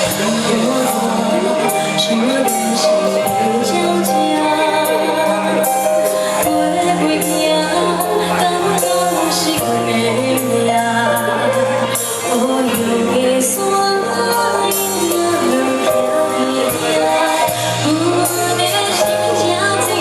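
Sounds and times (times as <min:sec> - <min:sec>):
live band playing pop song: 0:00.0 - 0:20.0.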